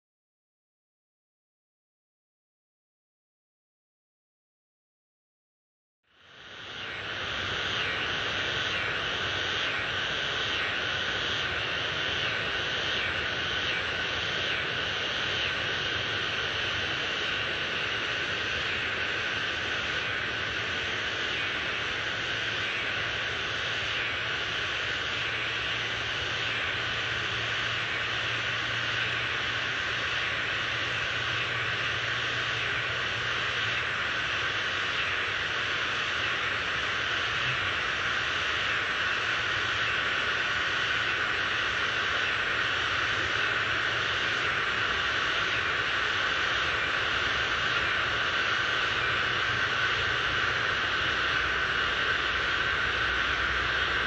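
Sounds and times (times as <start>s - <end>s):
steady rushing noise: 6.3s - 54.0s.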